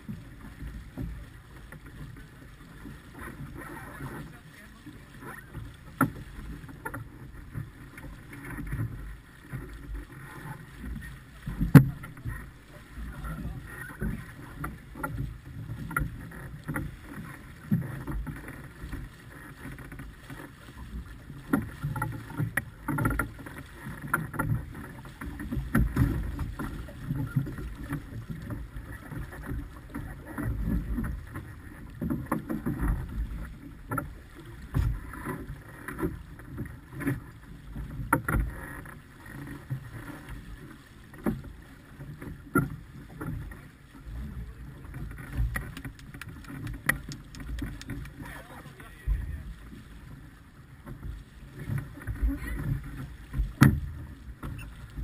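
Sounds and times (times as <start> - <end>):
water splashing along hull: 0.0 - 55.0.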